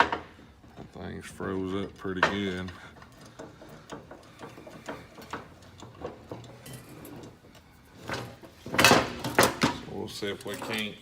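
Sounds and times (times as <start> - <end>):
wrench metallic clicks and scrapes: 0.0 - 11.0.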